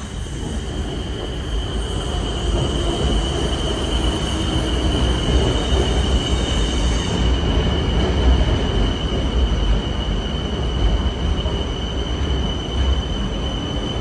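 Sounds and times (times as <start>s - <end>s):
electric train rumble and whine: 0.0s - 14.0s.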